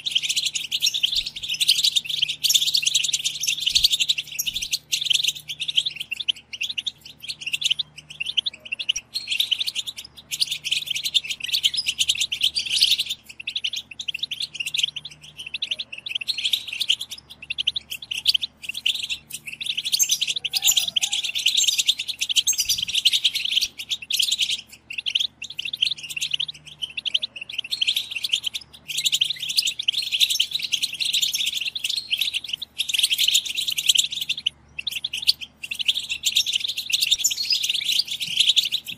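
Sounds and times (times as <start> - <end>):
finches twittering: 0.0 - 38.9.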